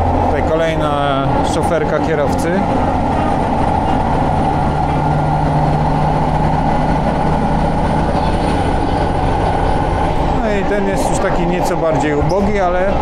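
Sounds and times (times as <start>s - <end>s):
low hum: 0.0s - 12.0s
train wheels and engine rumbling: 0.0s - 13.0s.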